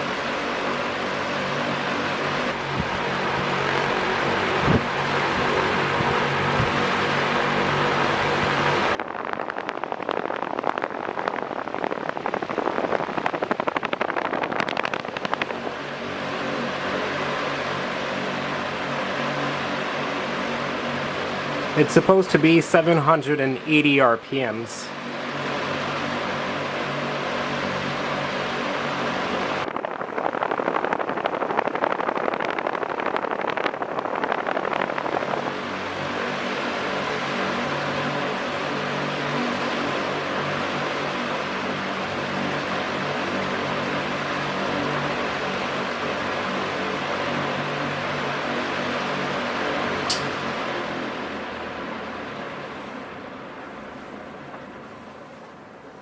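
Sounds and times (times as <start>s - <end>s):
ceiling fan blades fluttering air: 0.0s - 56.0s
fan motor hum: 0.0s - 56.0s.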